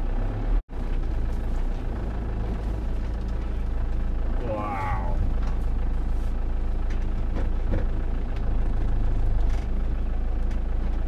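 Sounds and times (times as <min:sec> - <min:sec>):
engine idling drone: 0:00.0 - 0:11.0.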